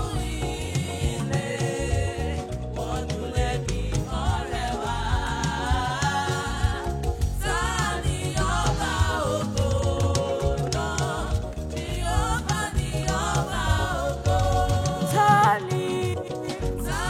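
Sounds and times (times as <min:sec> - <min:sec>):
gospel singing over a beat: 0:00.0 - 0:17.0.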